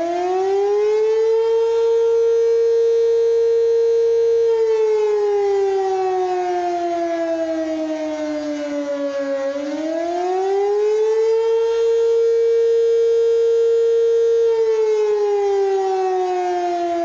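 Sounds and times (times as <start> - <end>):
civil defense warning siren: 0.0 - 17.0.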